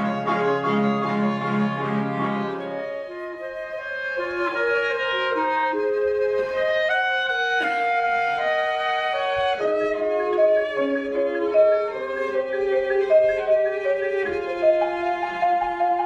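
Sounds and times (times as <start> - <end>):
cello: 0.0 - 16.0
clarinet: 0.0 - 16.0
flute: 0.0 - 16.0
violin: 0.0 - 16.0.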